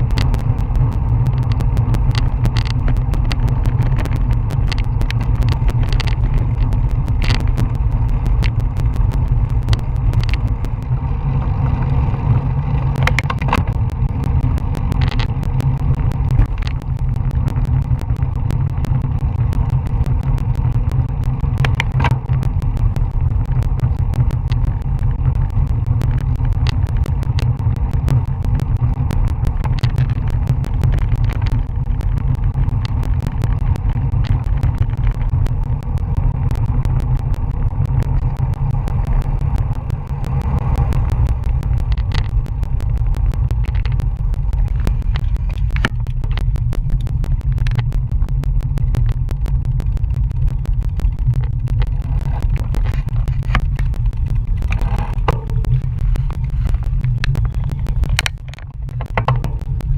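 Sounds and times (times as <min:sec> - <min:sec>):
sharp clicks and knocks: 0:00.0 - 0:11.1, 0:12.7 - 0:59.9
road noise: 0:00.0 - 0:59.9.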